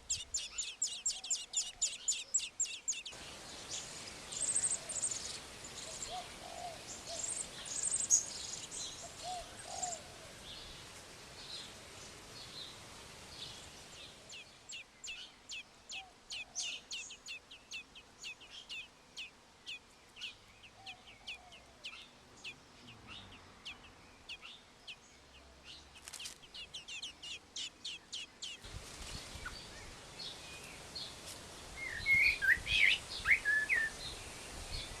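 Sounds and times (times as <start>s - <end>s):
lower curving bird calls: 0.0s - 31.2s, 31.8s - 35.0s
background hiss: 0.0s - 35.0s
birds chirping: 0.0s - 35.0s.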